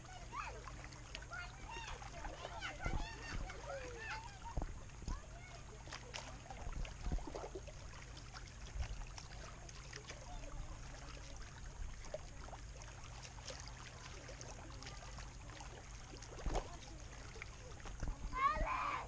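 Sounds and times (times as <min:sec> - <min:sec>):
little splashes: 0:00.0 - 0:19.0
small waves lapping on rocks: 0:00.0 - 0:19.0.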